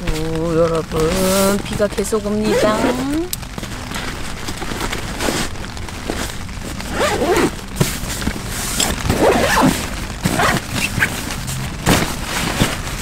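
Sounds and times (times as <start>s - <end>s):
fabric rustling and scraping: 0.0s - 13.0s.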